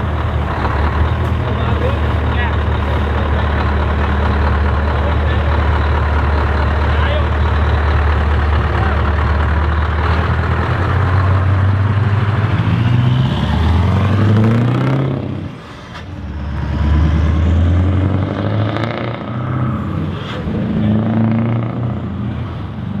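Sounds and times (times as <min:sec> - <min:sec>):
heavy truck engines revving: 0:00.0 - 0:23.0.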